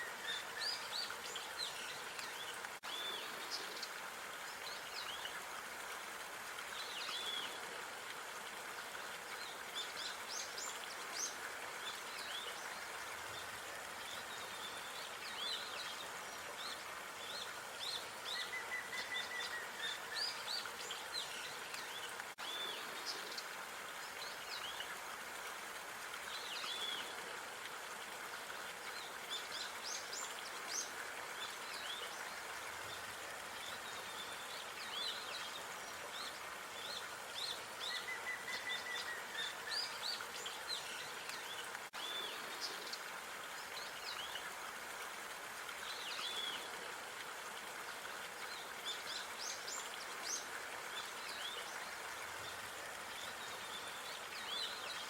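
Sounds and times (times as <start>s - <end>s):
steady outdoor hiss: 0.0s - 55.0s.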